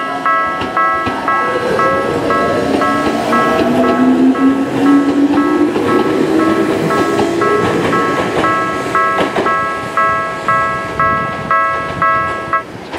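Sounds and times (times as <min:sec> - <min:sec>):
level crossing alarm ringing: 0:00.0 - 0:12.7.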